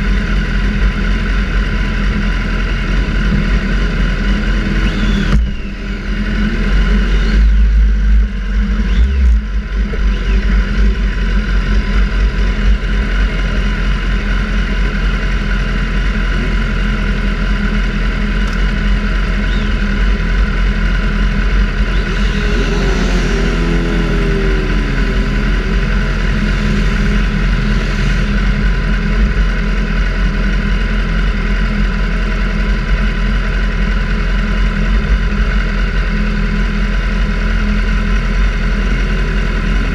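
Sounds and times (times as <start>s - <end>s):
low wind rumble: 0.0s - 39.9s
motorcycle engine running hard: 0.0s - 39.9s.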